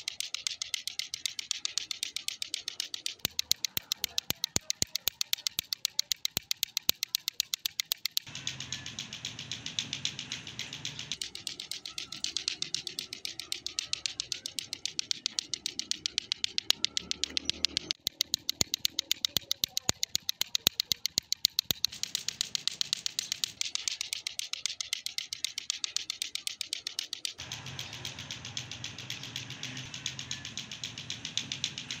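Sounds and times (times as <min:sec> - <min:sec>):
clacker toy balls clacking: 0:00.0 - 0:32.0.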